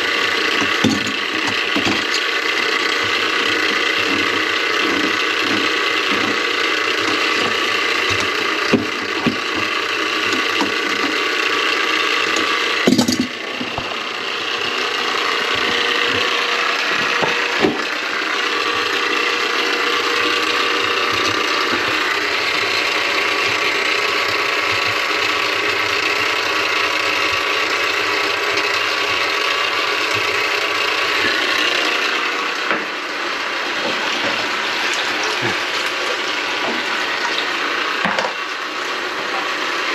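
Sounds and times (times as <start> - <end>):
drain-cleaning machine rattling: 0.0 - 39.9.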